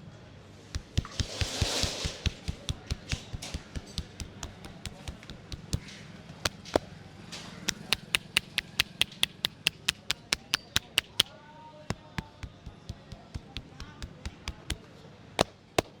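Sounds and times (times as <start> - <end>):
hands tapping and slapping head: 0.8 - 6.9, 7.6 - 11.3, 11.9 - 16.0.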